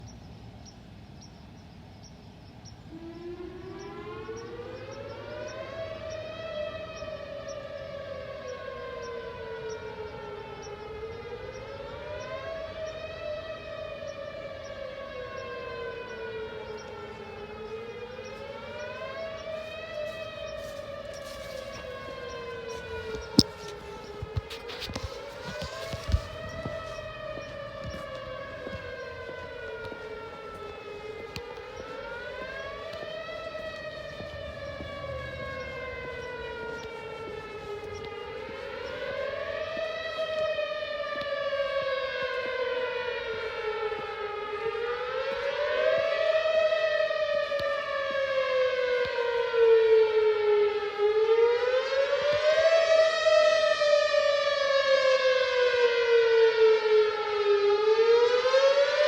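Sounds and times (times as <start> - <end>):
tornado siren wailing: 1.5 - 59.0.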